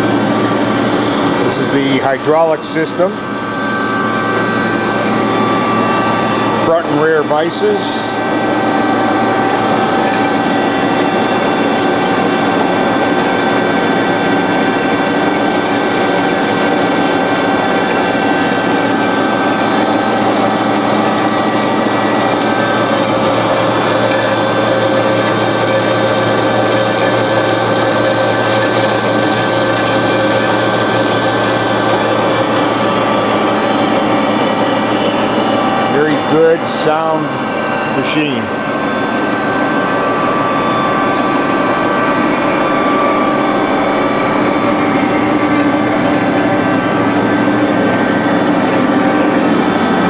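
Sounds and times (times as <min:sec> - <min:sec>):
band saw humming: 0:00.0 - 0:50.0
mid-pitched machine tone: 0:00.0 - 0:50.0.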